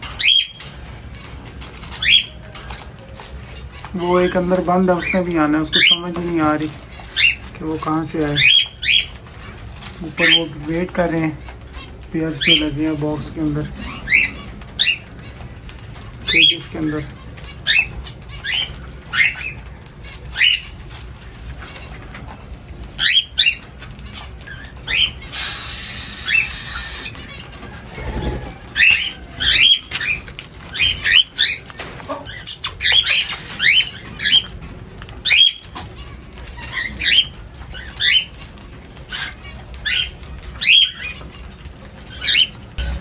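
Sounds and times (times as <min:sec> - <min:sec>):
birds chirping: 0:00.0 - 0:43.0
wings flapping: 0:00.0 - 0:43.0.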